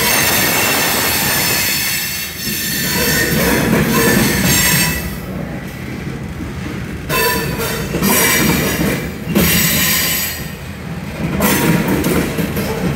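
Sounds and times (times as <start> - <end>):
freight train wheels rumbling: 0.0 - 12.9.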